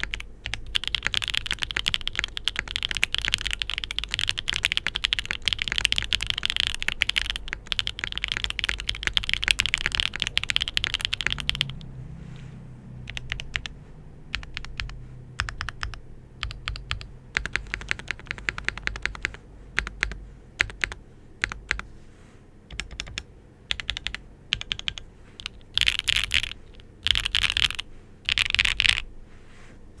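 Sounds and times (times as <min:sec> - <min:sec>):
typing on mechanical keyboard: 0:00.0 - 0:11.9, 0:13.1 - 0:13.7, 0:14.3 - 0:21.9, 0:22.7 - 0:29.0.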